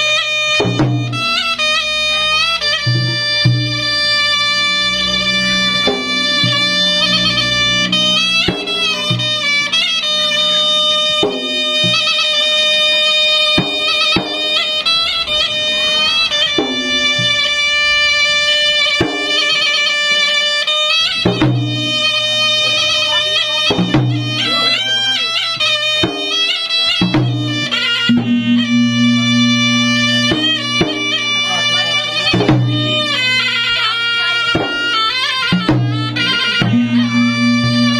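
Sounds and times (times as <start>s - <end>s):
reedy wind instrument melody: 0.0s - 37.9s.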